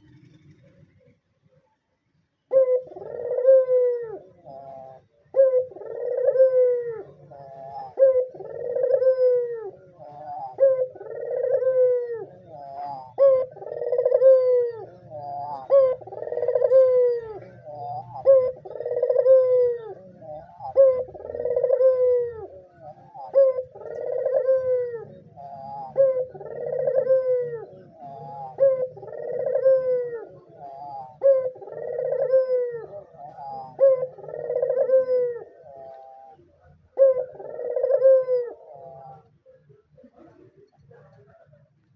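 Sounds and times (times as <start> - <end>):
dove cooing: 0.0 - 1.2, 2.3 - 41.9.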